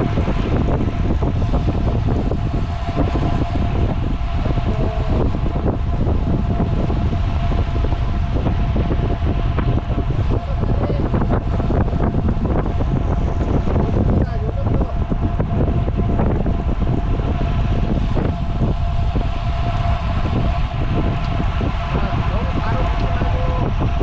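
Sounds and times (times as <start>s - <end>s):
thin steady whine: 0.0s - 24.0s
wind rushing over microphone: 0.0s - 24.0s.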